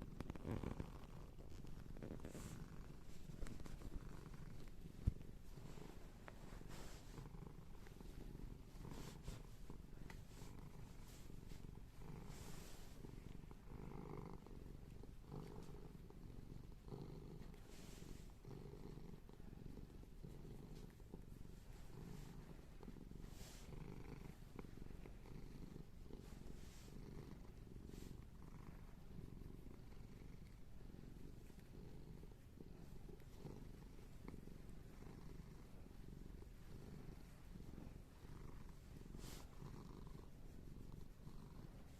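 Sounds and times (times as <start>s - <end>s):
cat purring: 0.0s - 41.9s
soft rustles: 0.0s - 41.9s.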